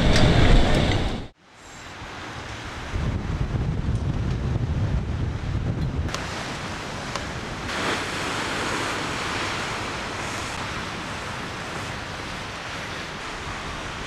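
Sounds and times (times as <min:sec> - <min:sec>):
sea washing past a ship: 0:00.0 - 0:14.0
wind: 0:00.0 - 0:14.0.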